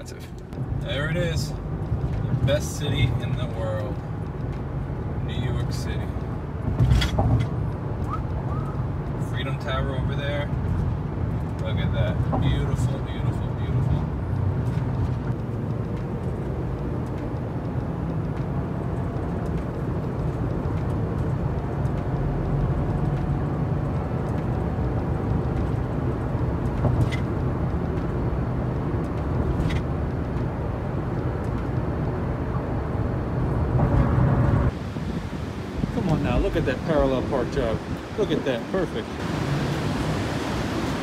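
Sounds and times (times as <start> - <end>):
road and tyre noise in car: 0.0 - 41.0.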